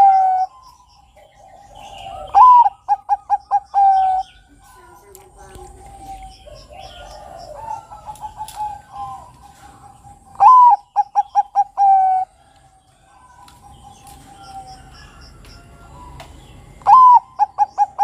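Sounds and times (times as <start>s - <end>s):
dove singing: 0.0s - 18.0s
other birds cooing and chirping: 0.0s - 18.0s.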